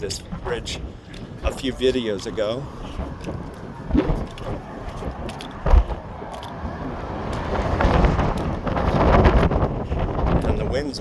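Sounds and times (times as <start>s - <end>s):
highway traffic: 0.0s - 11.0s
wind buffeting microphone: 0.0s - 11.0s.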